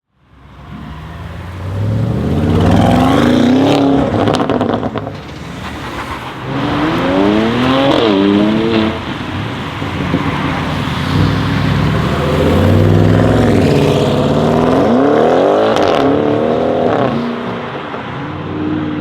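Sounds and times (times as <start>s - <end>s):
car engine revving: 0.7s - 17.8s.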